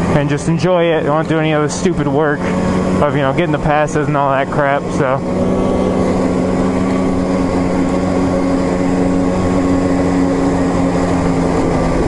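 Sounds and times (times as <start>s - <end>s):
snowmobile engine droning: 0.0s - 12.0s.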